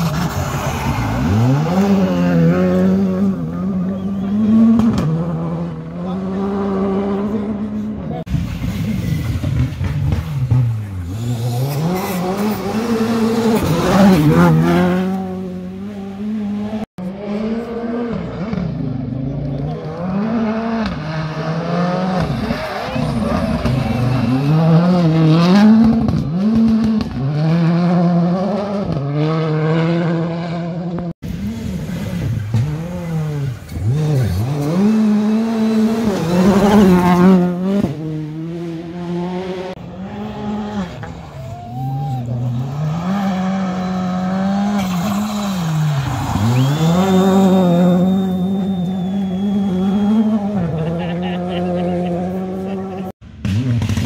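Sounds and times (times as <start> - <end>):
rally cars revving past: 0.0 - 41.5, 42.1 - 54.0.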